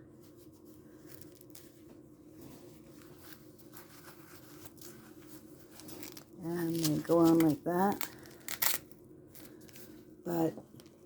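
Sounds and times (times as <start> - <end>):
cloth rustling: 0.2 - 11.0.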